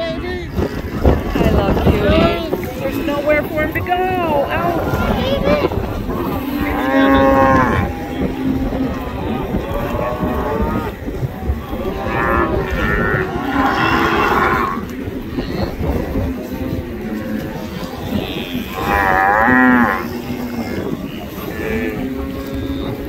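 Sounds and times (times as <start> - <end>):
cattle mooing and bawling: 4.4 - 23.0.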